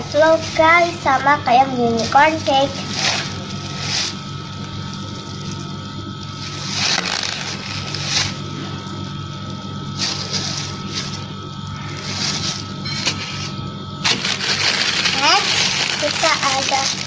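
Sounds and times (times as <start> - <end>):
plastic packaging crinkling: 0.0 - 17.0
steady low hum: 0.0 - 17.0.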